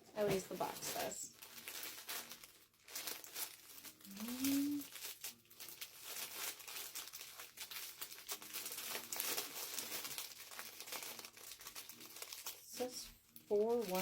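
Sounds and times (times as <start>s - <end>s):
packaging crinkling and rustling: 0.2s - 14.0s.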